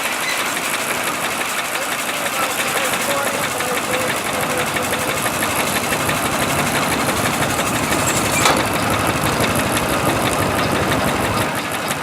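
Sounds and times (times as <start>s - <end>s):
steam engine exhaust beat: 0.0s - 12.0s.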